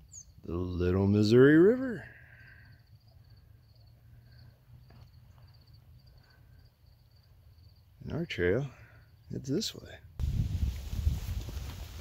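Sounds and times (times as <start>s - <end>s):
crickets chirping: 0.0s - 11.2s.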